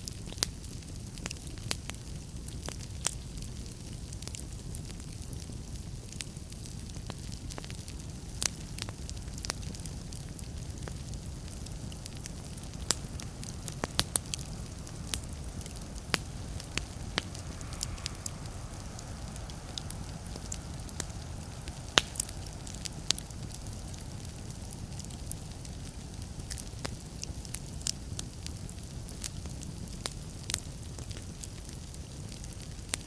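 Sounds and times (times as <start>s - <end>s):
fire flames rumbling: 0.0s - 33.0s
logs crackling and popping: 0.0s - 33.0s.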